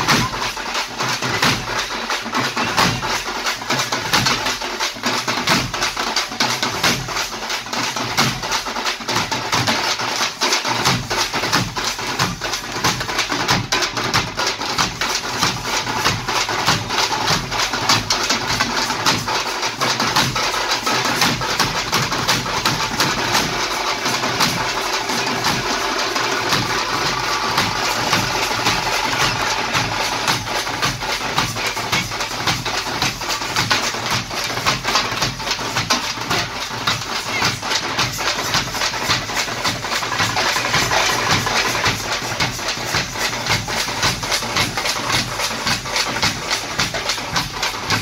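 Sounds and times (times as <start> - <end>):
frame drums beaten with sticks: 0.0 - 48.0.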